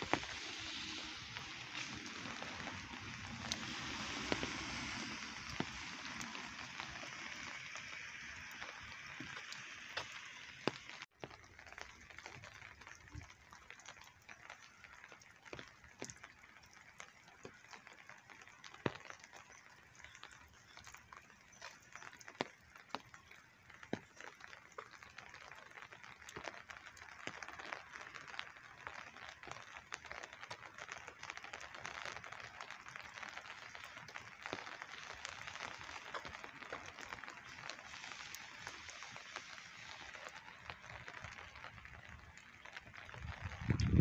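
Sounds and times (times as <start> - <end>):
footsteps on wet sidewalk: 0.0 - 44.0
light rain hiss: 0.0 - 44.0.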